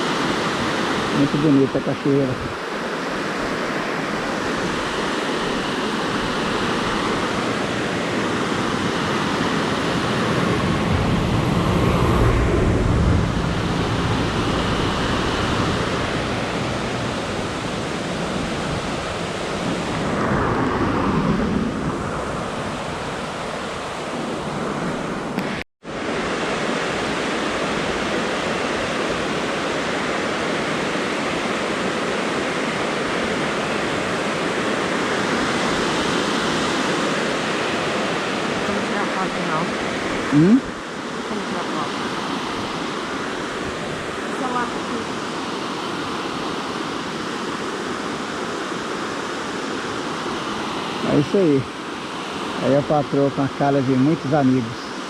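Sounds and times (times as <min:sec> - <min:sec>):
waterfall rushing: 0:00.0 - 0:20.7, 0:21.6 - 0:55.0.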